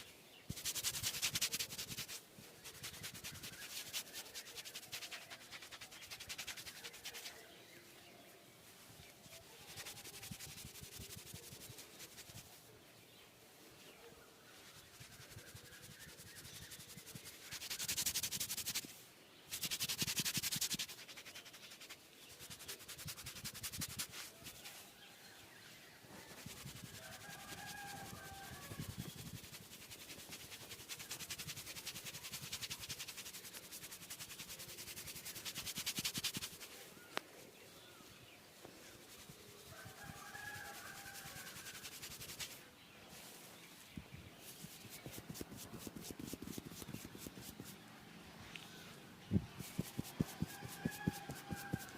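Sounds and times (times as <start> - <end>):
hands rubbing skin and hair: 0.5 - 7.5, 9.0 - 12.6, 14.5 - 24.9, 26.2 - 37.2, 38.9 - 47.8, 49.4 - 51.9.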